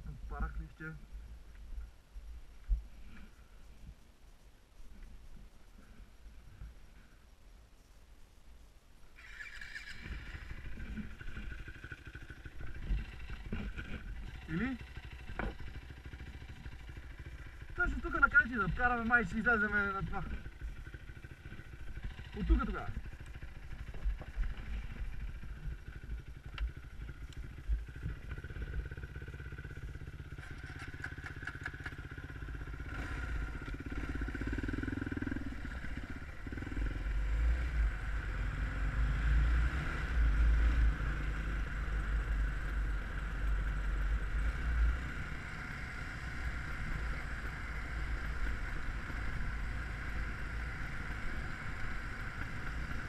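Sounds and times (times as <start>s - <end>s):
dirt bike engine running: 9.2s - 53.0s.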